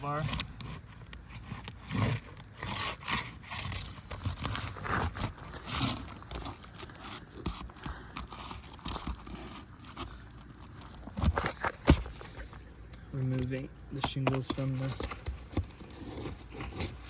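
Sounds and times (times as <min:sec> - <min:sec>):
pry bar scraping shingles: 0:00.0 - 0:17.0.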